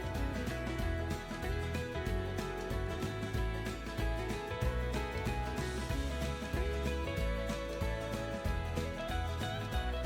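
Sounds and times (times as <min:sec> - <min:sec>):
music with steady beat: 0:00.0 - 0:10.0
plucked guitar melody: 0:00.0 - 0:10.0.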